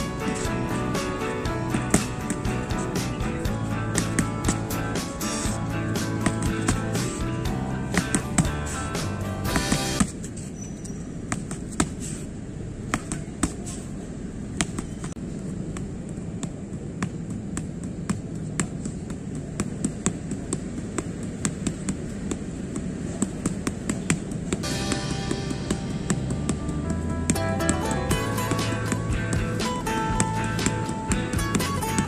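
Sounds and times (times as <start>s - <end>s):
low background rumble: 0.0s - 10.1s, 11.1s - 32.0s
boxing gloves slapping mitts: 1.7s - 10.3s, 11.3s - 12.2s, 12.8s - 32.0s.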